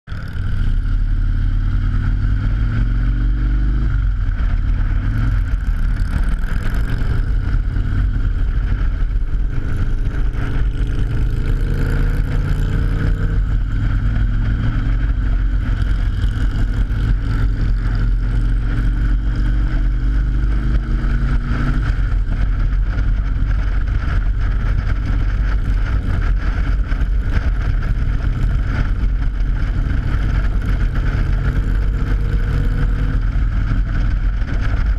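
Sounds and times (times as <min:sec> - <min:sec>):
motorcycle engine shifting gears: 0:00.1 - 0:34.9
wind rumble: 0:00.1 - 0:34.9.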